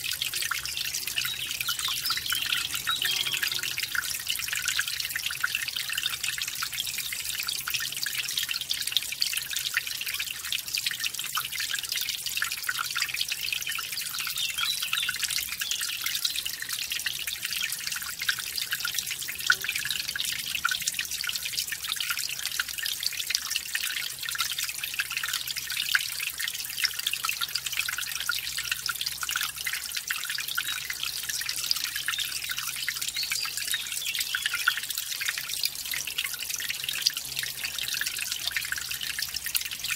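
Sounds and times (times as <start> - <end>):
stream splashing over small waterfall: 0.0 - 39.9.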